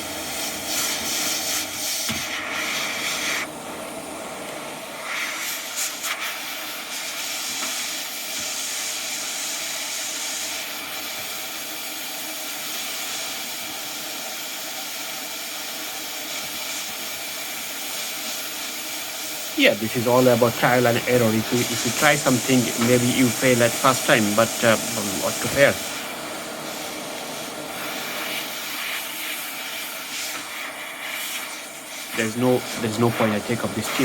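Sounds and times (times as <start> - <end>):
hot air station hissing: 0.0 - 34.0.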